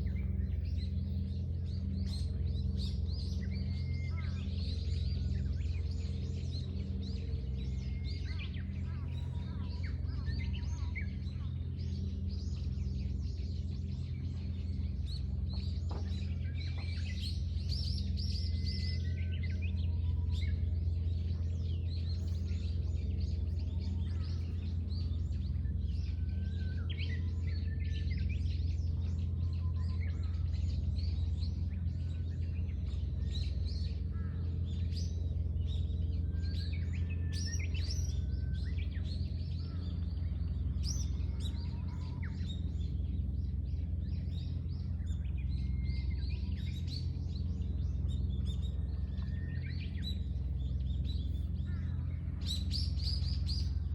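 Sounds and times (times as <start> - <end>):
small birds chirping: 0.0 - 53.9
steady low hum: 0.0 - 53.9.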